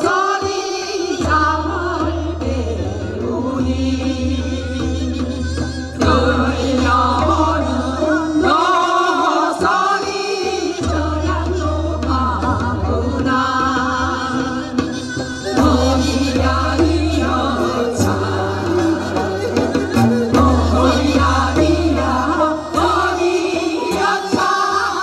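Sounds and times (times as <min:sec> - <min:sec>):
instrumental accompaniment with bass: 0:00.0 - 0:25.0
women singing with vibrato: 0:00.0 - 0:25.0.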